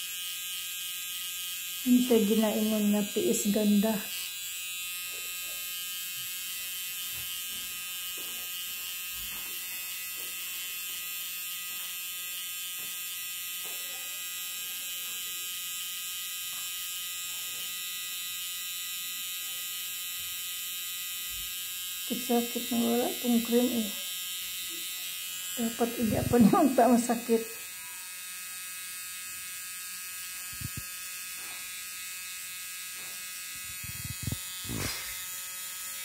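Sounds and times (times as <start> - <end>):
high-pitched electric buzz: 0.0 - 36.0.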